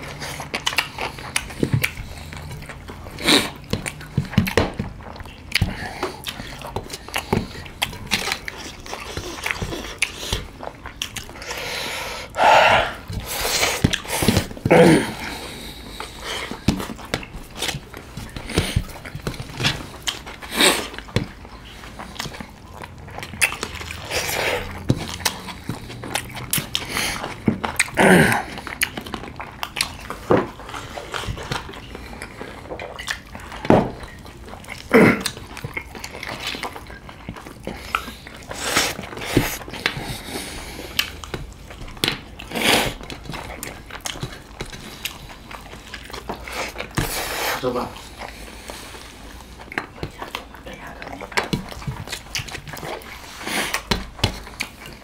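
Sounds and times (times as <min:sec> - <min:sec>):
people chewing and lip-smacking: 0:00.0 - 0:55.0.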